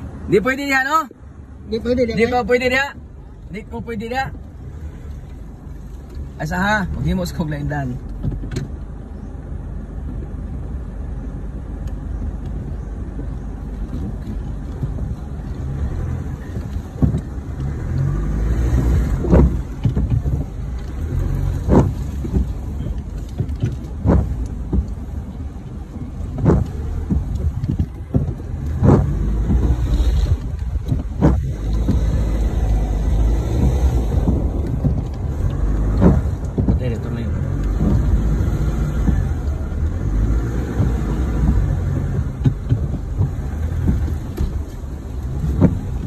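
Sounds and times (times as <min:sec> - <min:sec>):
vehicle engine rumbling: 0:00.0 - 0:46.0.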